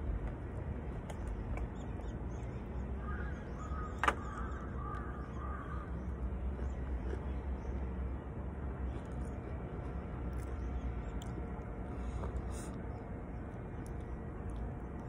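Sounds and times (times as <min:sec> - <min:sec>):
birds calling: 0:01.1 - 0:13.4.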